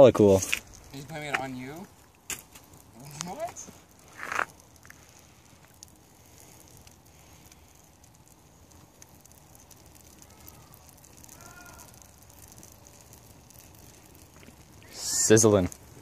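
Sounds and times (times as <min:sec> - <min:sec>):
fire crackling and sizzling: 0:00.0 - 0:16.0
small pops: 0:00.4 - 0:16.0.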